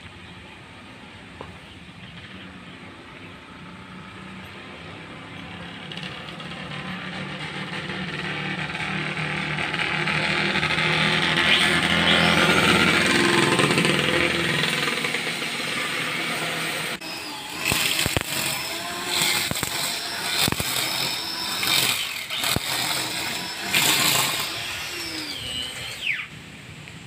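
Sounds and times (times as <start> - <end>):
string trimmer cutting grass: 2.2 - 26.4.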